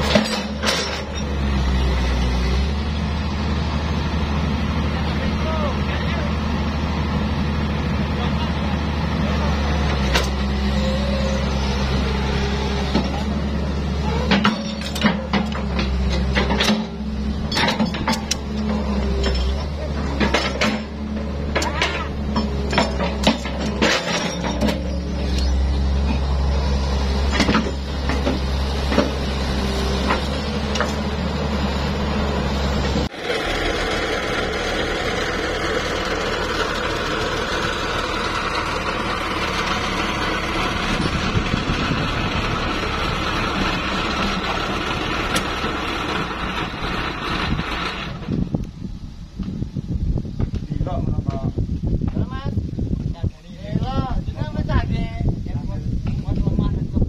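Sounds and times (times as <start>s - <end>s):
excavator diesel engine running: 0.0s - 49.2s.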